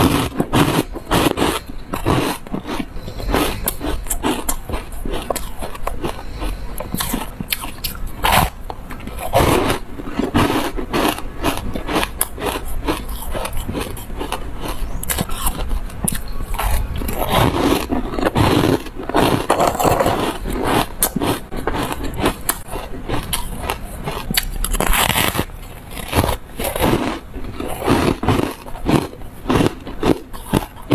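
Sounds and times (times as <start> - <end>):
chewing and crunching ice: 0.0 - 30.9.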